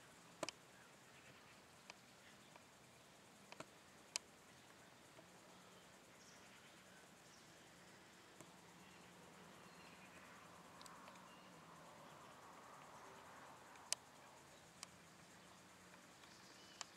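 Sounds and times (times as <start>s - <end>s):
faint outdoor background: 0.0s - 16.9s.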